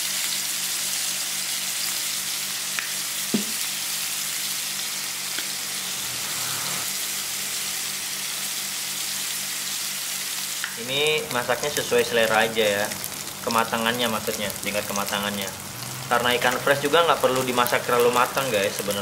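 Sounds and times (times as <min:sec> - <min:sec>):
fish frying in oil: 0:00.0 - 0:19.0.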